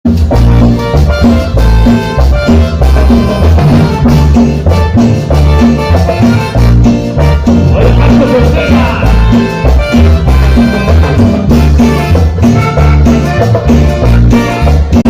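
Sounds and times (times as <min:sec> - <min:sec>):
cumbia band music: 0:00.0 - 0:15.0.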